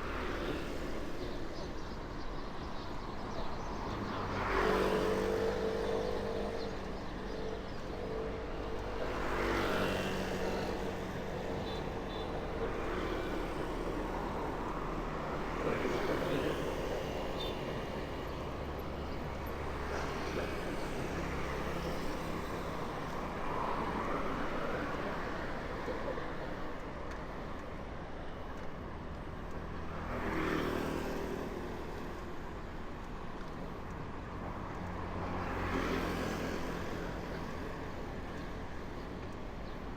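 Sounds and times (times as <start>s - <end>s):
street traffic hum: 0.0s - 39.9s
vehicles passing close by: 0.0s - 39.9s.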